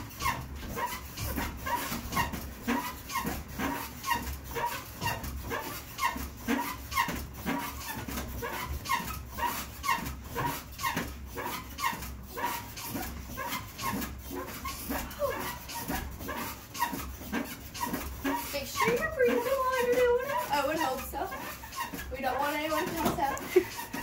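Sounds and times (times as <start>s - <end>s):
elliptical trainer squeaking: 0.0s - 24.0s.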